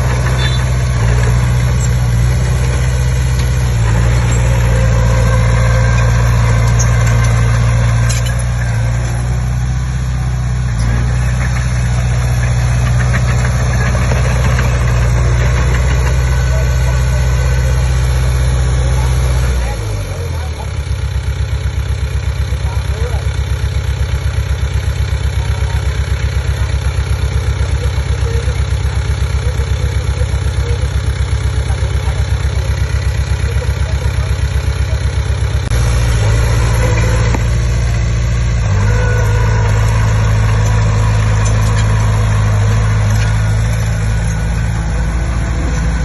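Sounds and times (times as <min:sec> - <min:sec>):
bulldozer diesel engine: 0:00.0 - 0:46.0.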